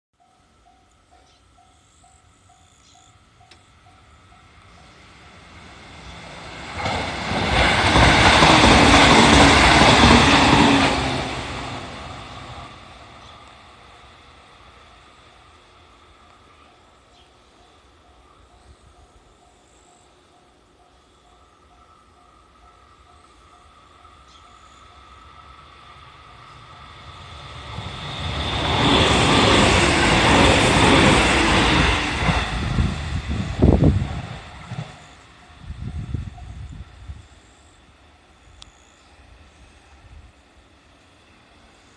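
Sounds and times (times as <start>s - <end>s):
electric train passing: 0.2s - 41.9s.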